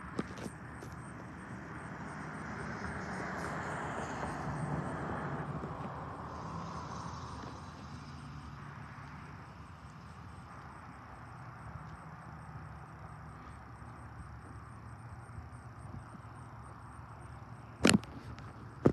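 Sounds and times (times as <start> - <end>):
passing vehicle engine hum: 0.0 - 18.9
rushing noise of passing vehicle: 0.0 - 18.9.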